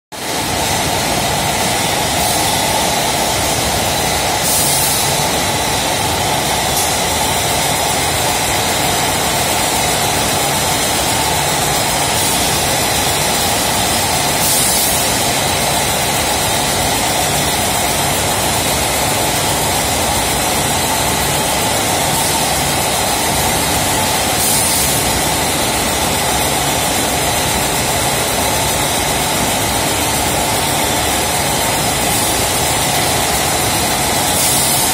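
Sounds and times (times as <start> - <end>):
packaging machine running: 0.3 - 34.9.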